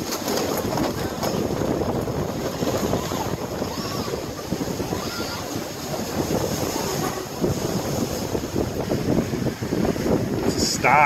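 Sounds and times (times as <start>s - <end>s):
water rushing along hulls: 0.0s - 11.0s
wind buffeting microphone: 0.0s - 11.0s.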